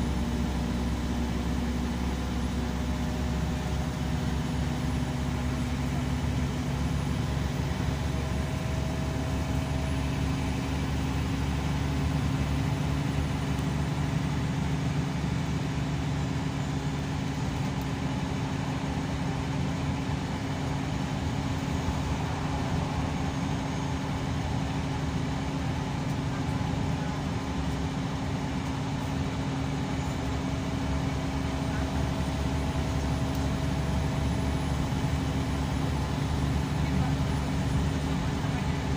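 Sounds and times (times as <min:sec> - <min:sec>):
coach engine and road drone: 0:00.0 - 0:38.9.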